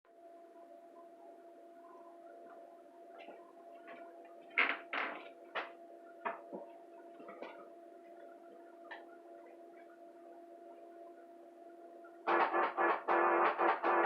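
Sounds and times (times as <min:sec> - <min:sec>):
faint hum: 0:00.1 - 0:14.0.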